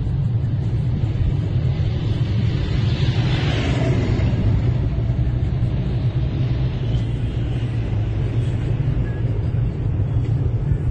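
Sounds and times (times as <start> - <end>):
car engine and tyre noise: 0.0 - 10.9.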